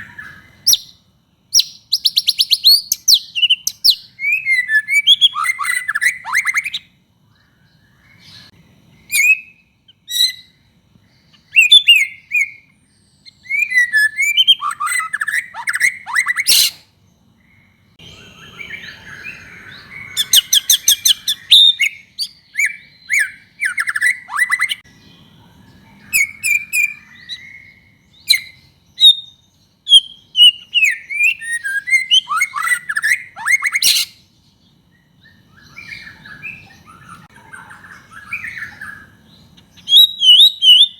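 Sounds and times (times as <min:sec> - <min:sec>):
songbird whistling and trilling: 0:00.0 - 0:16.8, 0:18.0 - 0:24.9, 0:26.0 - 0:34.3, 0:35.0 - 0:40.9.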